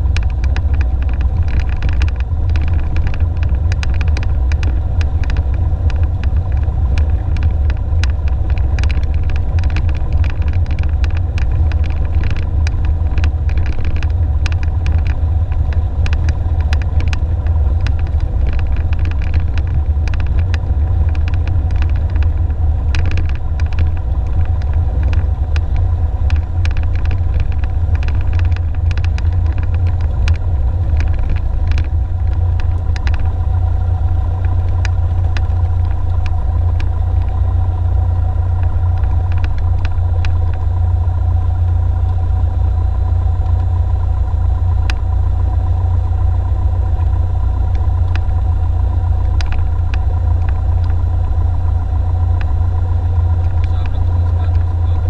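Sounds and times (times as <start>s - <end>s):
aircraft engine and propeller drone: 0.0s - 55.0s
crackling clicks: 0.0s - 55.0s.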